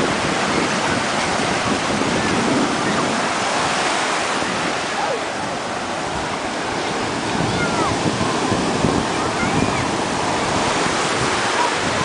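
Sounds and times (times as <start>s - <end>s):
ocean waves breaking: 0.0s - 12.0s
wind buffeting microphone: 0.0s - 12.0s.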